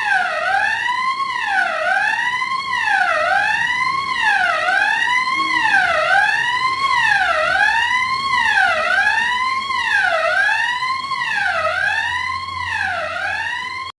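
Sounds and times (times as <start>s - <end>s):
fire alarm siren sweeping: 0.0s - 14.0s.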